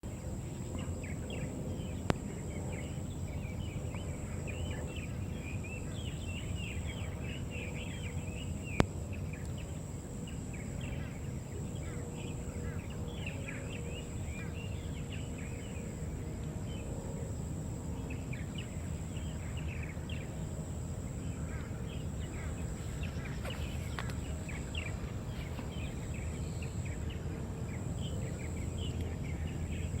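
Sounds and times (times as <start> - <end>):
small birds chirping: 0.8 - 30.0.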